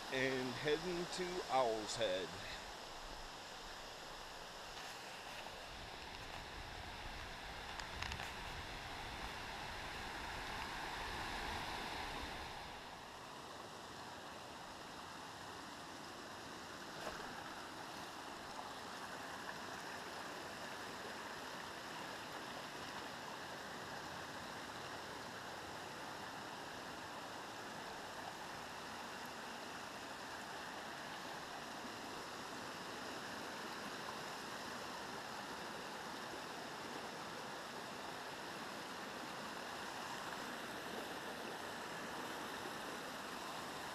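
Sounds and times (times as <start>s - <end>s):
stream rushing over stones: 0.0s - 43.9s.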